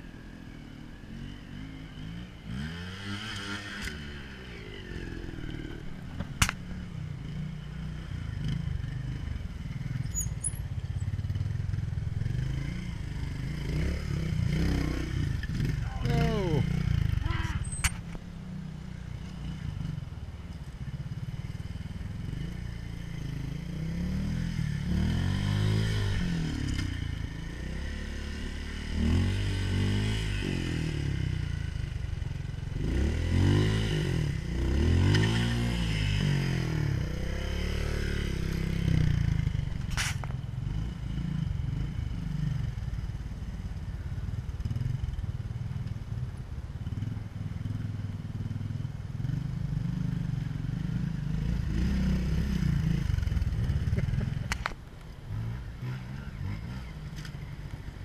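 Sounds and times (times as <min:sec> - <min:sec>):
motorcycle engine revving: 0:00.0 - 0:20.1, 0:20.8 - 0:46.0, 0:46.8 - 0:54.7, 0:55.3 - 0:58.0.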